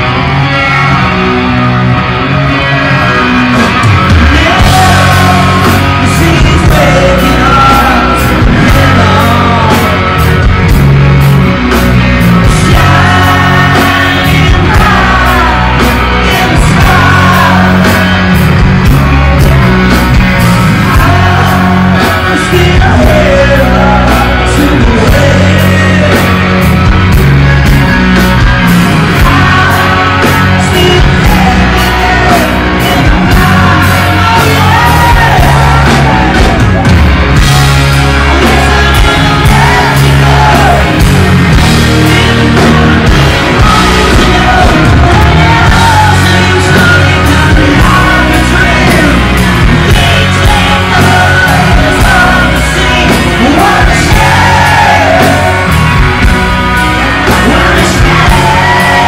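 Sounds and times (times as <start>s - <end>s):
electric guitars: 0.0s - 59.0s
hard rock band playing: 0.0s - 59.0s
man singing lead vocal: 1.9s - 27.3s, 28.6s - 59.0s.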